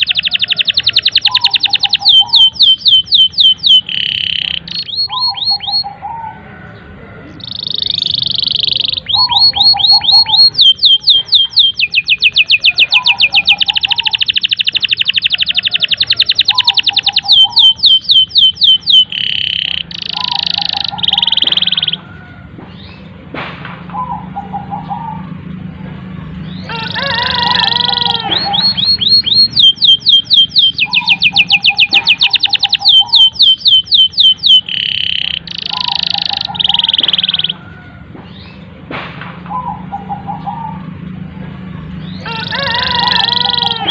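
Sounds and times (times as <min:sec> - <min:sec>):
canary singing trills: 0:00.0 - 0:23.2, 0:23.9 - 0:38.8, 0:39.5 - 0:43.9.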